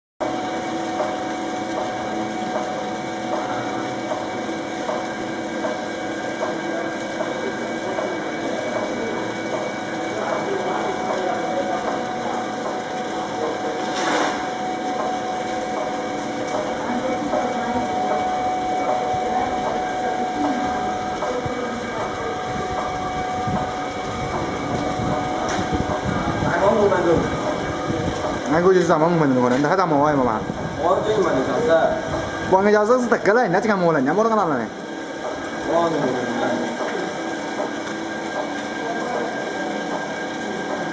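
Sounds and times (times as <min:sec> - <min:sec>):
electric motor hum: 0:00.2 - 0:38.2.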